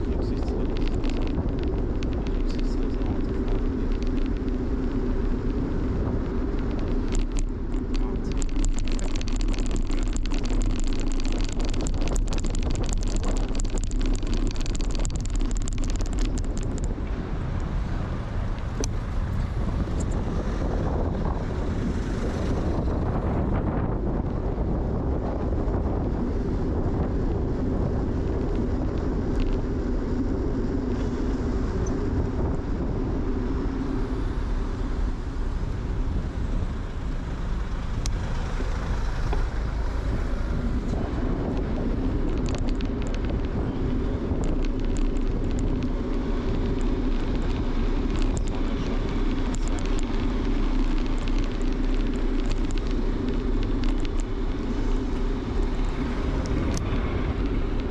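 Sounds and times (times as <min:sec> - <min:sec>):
rattle of bicycle clicks: 0:00.0 - 0:17.8, 0:18.4 - 0:57.9
tyre and road rumble: 0:00.0 - 0:57.9
wind on microphone: 0:00.0 - 0:57.9.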